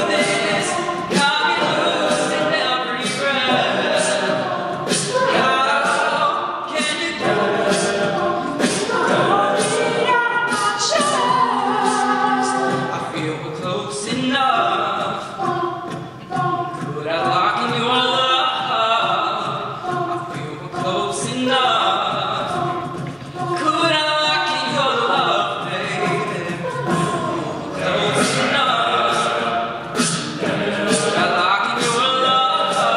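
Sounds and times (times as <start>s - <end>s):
beatboxed vocal percussion: 0.0s - 32.9s
male vocal group singing: 0.0s - 32.9s.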